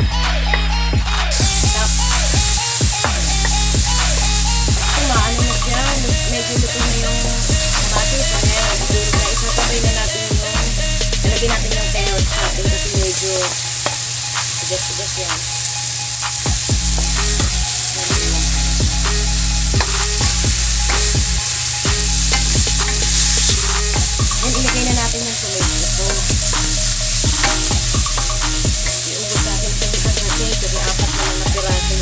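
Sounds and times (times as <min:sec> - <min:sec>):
vegetables sizzling in oil: 0:01.3 - 0:32.0
spatula scraping and knocking wok: 0:01.4 - 0:15.2, 0:16.1 - 0:32.0.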